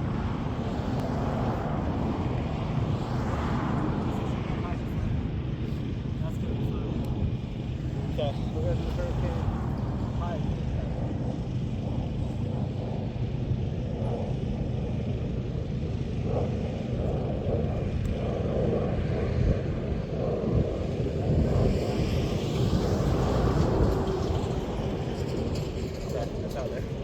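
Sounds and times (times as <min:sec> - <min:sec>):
low engine rumble: 0:00.0 - 0:27.0.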